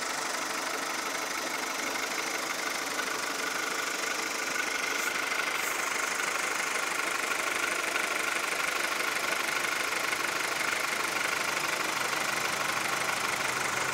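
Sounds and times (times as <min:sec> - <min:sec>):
car engine clattering: 0:00.0 - 0:13.9.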